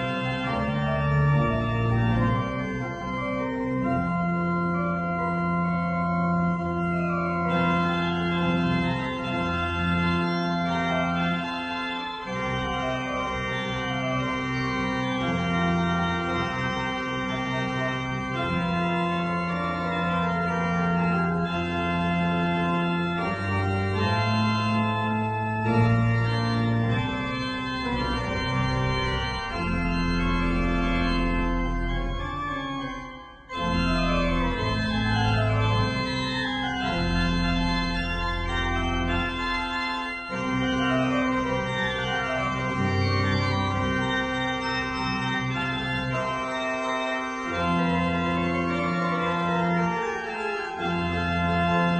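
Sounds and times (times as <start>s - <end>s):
organ music: 0.0s - 51.9s.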